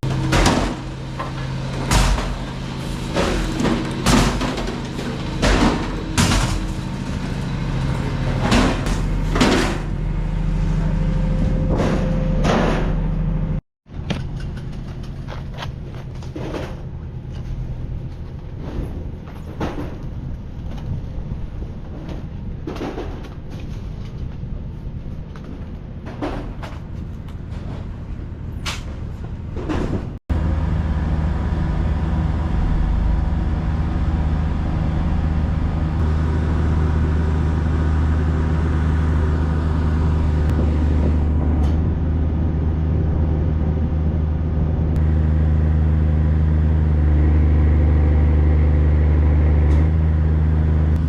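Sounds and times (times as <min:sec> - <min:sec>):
engine running: 0:00.0 - 0:24.2, 0:25.3 - 0:51.0
low rumble: 0:00.0 - 0:49.8.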